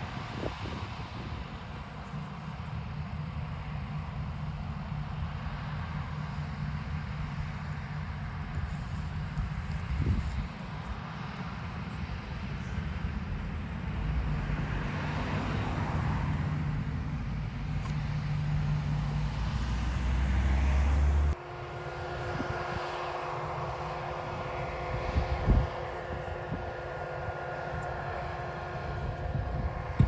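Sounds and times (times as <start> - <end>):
engine drone with high whine: 0.0 - 30.0
farm machinery engine rumble: 0.0 - 30.0.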